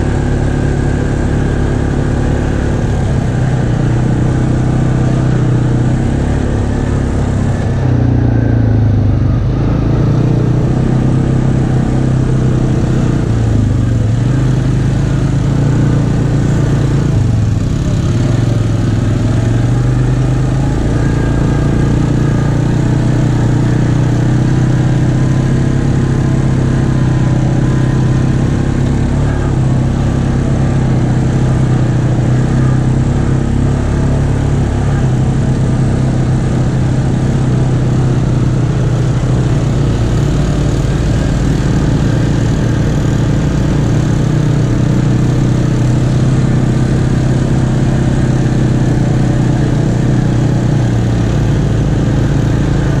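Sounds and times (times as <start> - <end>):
atv engine droning: 0.0 - 53.0.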